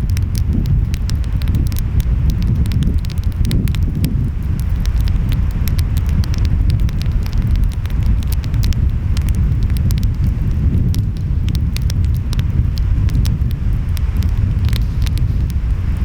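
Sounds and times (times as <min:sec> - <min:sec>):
wind: 0:00.0 - 0:16.0
wood fire crackling and popping: 0:00.0 - 0:16.0.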